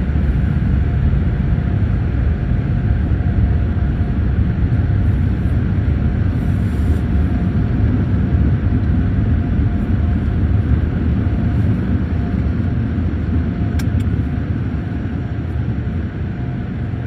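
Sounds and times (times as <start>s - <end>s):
dryer blowers rushing air: 0.0s - 17.0s
faint steady hum: 0.0s - 17.0s.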